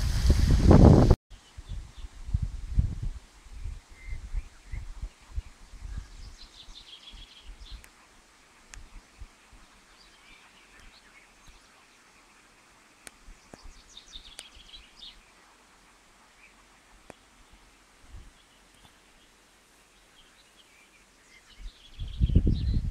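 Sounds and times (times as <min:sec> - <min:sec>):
small birds twittering: 0:03.6 - 0:22.9.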